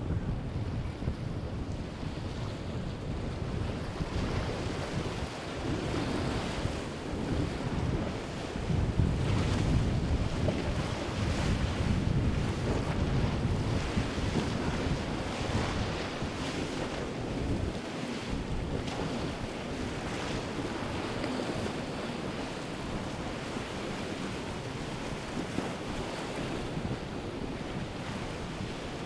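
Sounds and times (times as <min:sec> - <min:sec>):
boat wake hissing through water: 0:00.0 - 0:29.0
waves washing: 0:00.0 - 0:29.0
wind buffeting microphone: 0:00.0 - 0:29.0.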